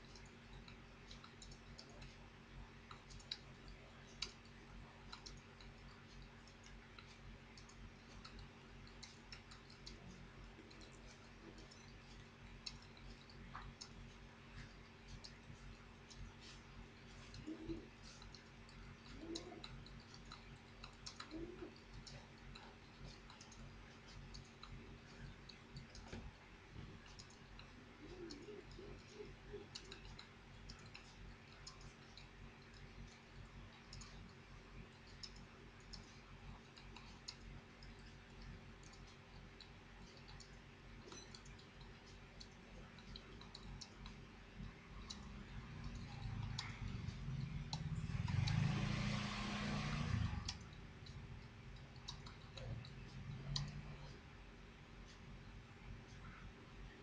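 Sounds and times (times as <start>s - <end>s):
keyboard typing clicks: 2.8s - 34.4s, 35.0s - 54.2s.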